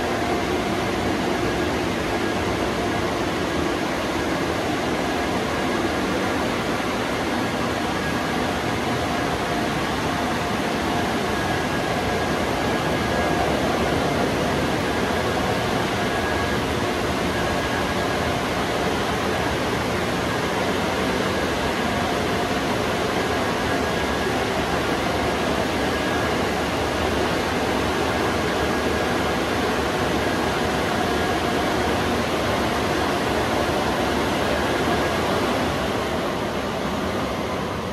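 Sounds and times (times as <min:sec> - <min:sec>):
car wash equipment running: 0:00.0 - 0:37.9.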